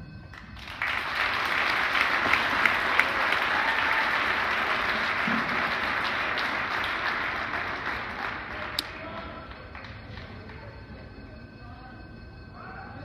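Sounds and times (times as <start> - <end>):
crowd applauding: 0.3 - 11.2.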